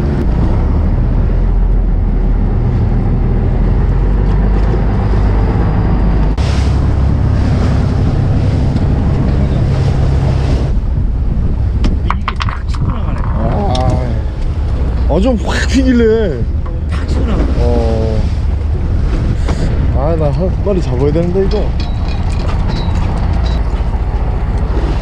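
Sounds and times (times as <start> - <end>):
boat engine droning: 0.0 - 25.0
choppy waves: 0.0 - 25.0
wind buffeting microphone: 0.0 - 25.0.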